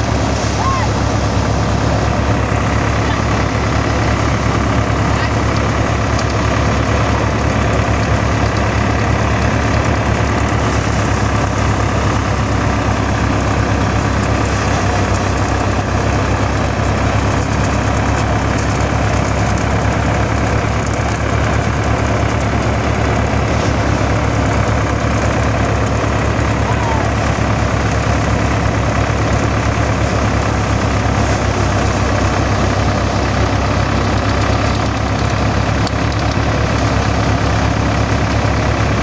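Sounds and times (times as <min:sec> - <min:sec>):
tractor engine and thresher running: 0:00.0 - 0:39.0.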